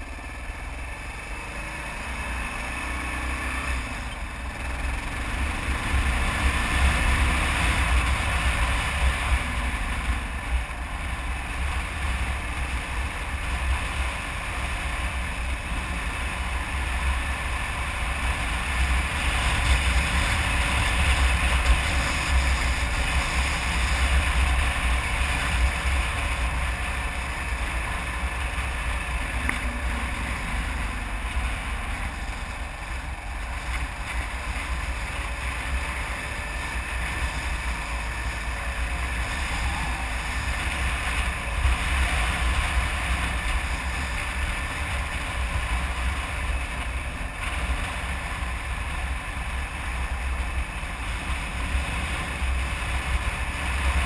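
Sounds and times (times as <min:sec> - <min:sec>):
motorcycle engine: 0:00.0 - 0:54.0
road noise: 0:00.0 - 0:54.0.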